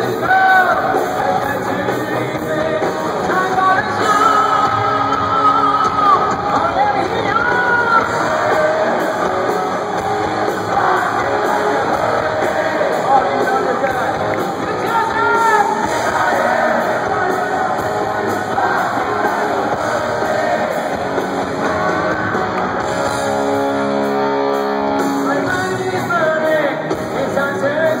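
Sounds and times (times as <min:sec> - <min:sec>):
lead vocal: 0:00.0 - 0:23.2, 0:25.1 - 0:28.0
live hard rock band: 0:00.0 - 0:28.0.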